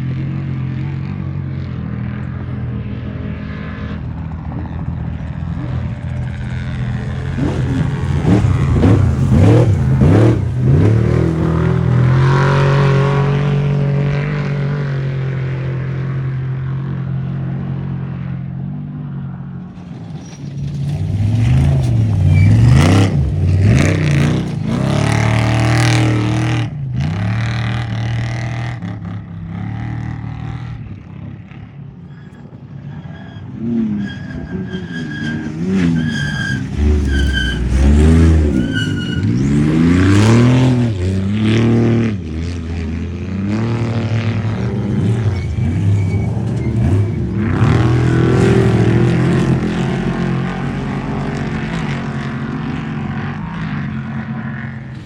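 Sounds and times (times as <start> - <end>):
race vehicle engines revving: 0.0 - 55.0.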